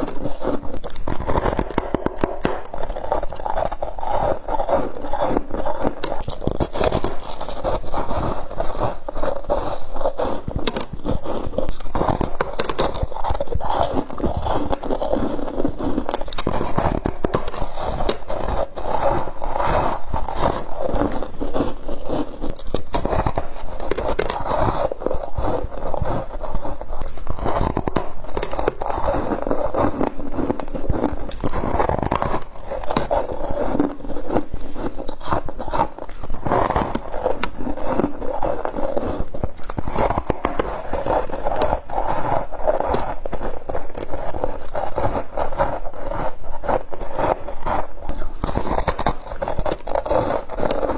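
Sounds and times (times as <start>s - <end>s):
frost being chewed: 0.0s - 50.9s.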